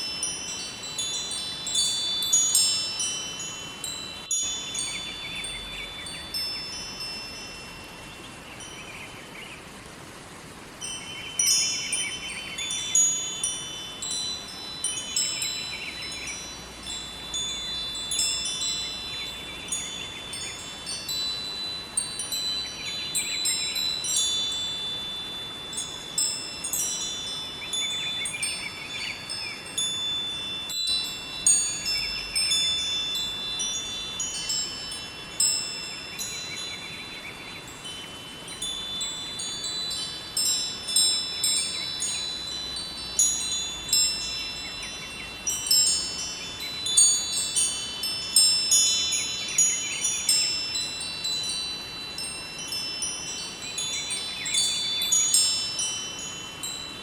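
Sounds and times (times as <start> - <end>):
metal wind chimes ringing: 0.0 - 9.4, 10.0 - 57.0
river water rushing: 0.0 - 57.0.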